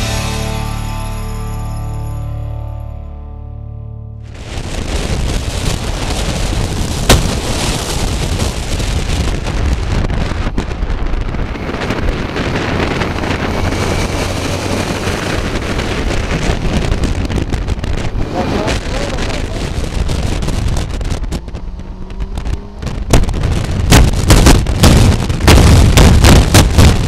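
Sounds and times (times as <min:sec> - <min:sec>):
road rumble: 0:00.0 - 0:27.0
wind rushing over microphone: 0:04.2 - 0:27.0.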